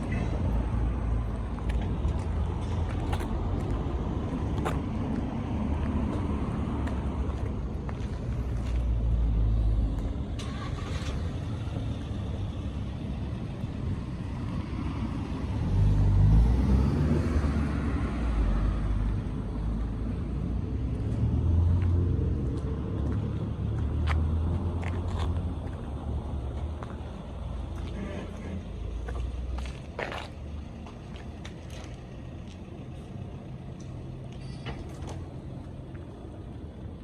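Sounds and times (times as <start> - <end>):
engine rumbling and revving: 0.0 - 37.0.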